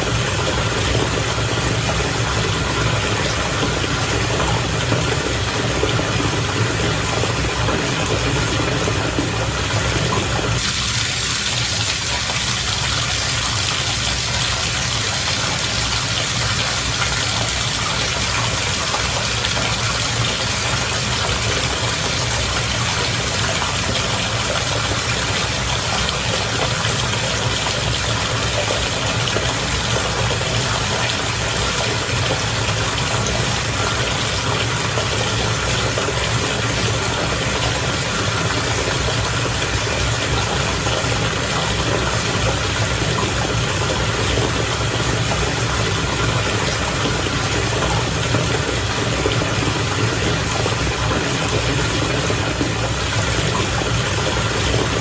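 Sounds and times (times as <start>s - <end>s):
bath water bubbling and rushing: 0.0s - 55.0s.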